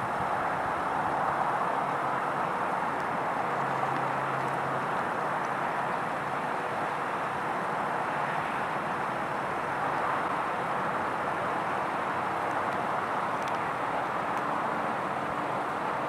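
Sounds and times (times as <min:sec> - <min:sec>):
distant road traffic roar: 0:00.0 - 0:16.0.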